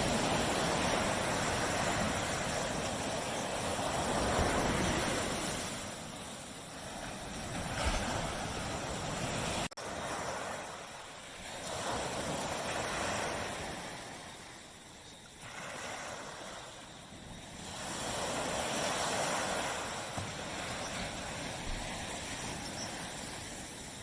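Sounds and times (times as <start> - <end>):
surf washing up on beach: 0.0 - 24.0.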